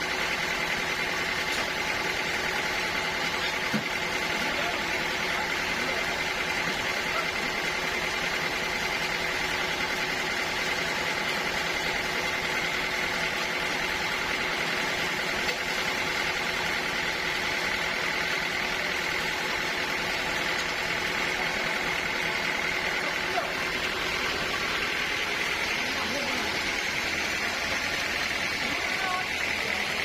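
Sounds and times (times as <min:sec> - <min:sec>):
sawmill machinery hum and whine: 0:00.0 - 0:30.0.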